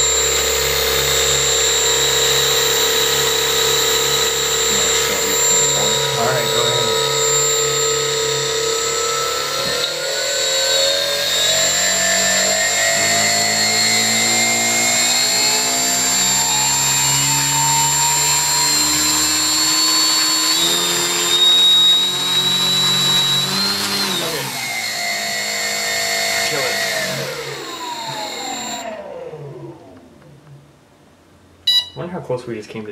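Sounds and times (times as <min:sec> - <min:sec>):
electric motor whining: 0:00.0 - 0:30.4.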